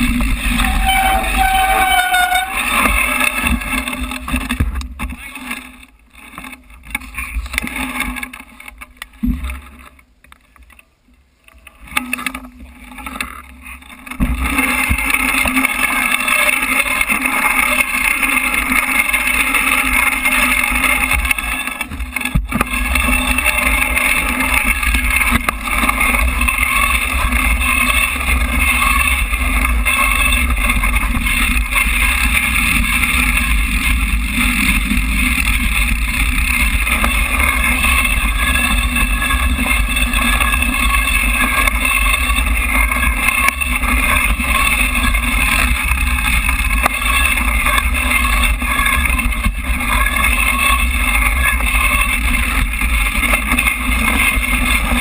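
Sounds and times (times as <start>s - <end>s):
bike tyres on dirt trail: 0.0s - 55.0s.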